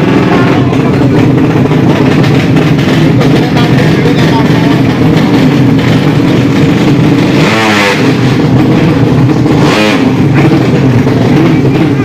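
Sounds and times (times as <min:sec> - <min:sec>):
motorcycle engines revving hard: 0:00.0 - 0:12.0
steady engine drone: 0:00.0 - 0:12.0.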